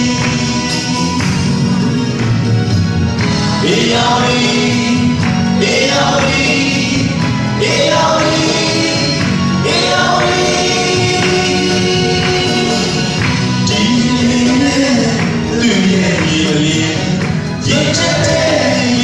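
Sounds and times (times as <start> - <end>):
men singing over a pa: 3.4 - 19.0.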